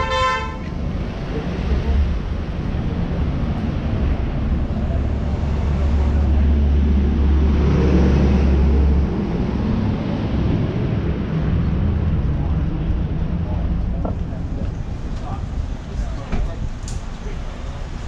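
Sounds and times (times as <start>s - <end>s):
street traffic engine rumble: 0.0s - 18.0s.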